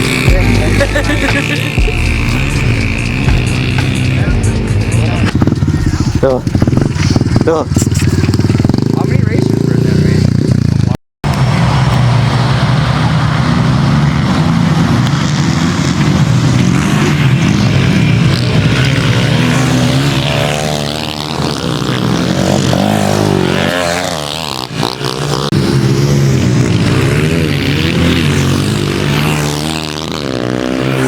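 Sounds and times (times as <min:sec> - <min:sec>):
pit bike engines revving: 0:00.0 - 0:31.0.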